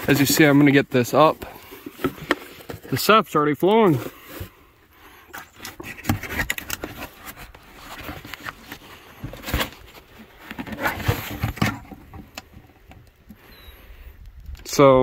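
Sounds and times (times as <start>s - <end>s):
plastic jug scraping and knocking: 0.0s - 13.4s.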